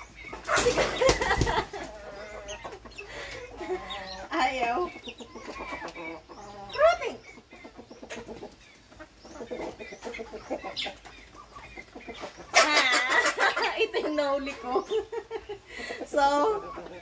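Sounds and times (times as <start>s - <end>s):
chicken squawking: 0.0s - 17.0s
chickens clucking: 0.0s - 17.0s.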